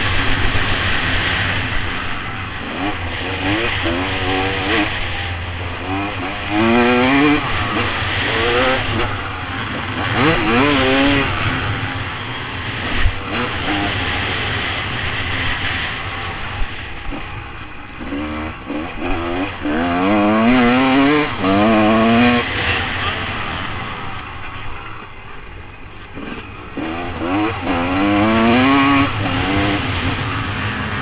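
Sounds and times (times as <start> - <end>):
dirt bike engine revving: 0.0 - 24.6, 26.0 - 31.0.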